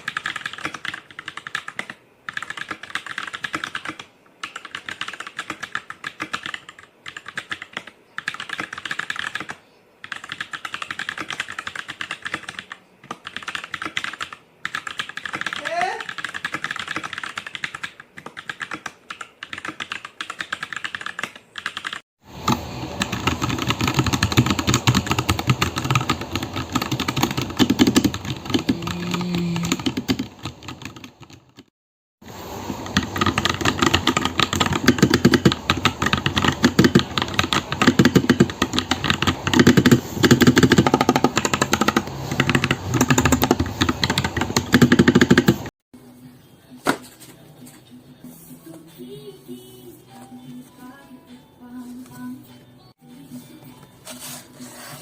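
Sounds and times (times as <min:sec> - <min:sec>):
mechanical keyboard typing: 0:00.0 - 0:31.7, 0:32.7 - 0:45.7.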